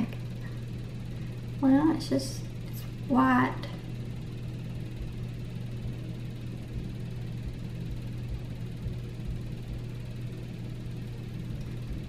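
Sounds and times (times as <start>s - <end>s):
faint rumble: 0.0s - 12.0s
steady low hum: 0.0s - 12.0s.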